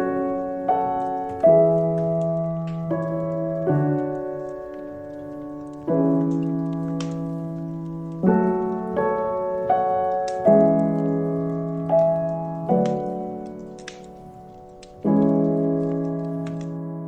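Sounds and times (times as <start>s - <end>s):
fireplace crackling: 0.0s - 17.0s
slow solo piano: 0.0s - 17.0s.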